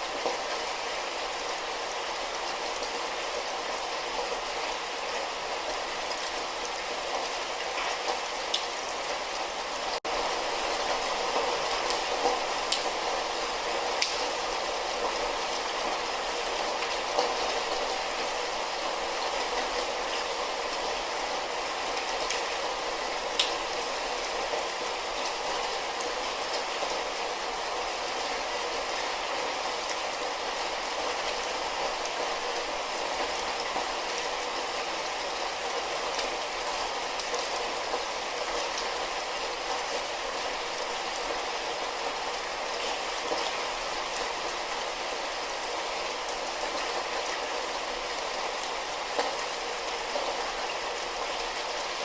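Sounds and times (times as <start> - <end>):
light rain falling: 0.0 - 52.0.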